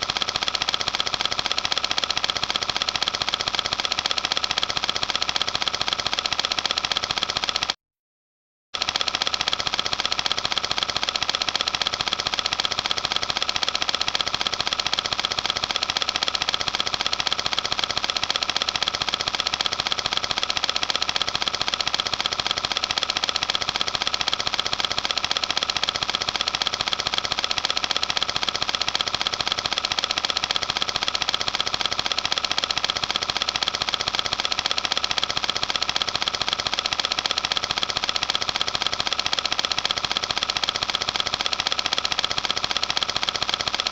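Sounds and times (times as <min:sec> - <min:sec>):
film projector clatter: 0:00.0 - 0:07.8, 0:08.8 - 0:43.9.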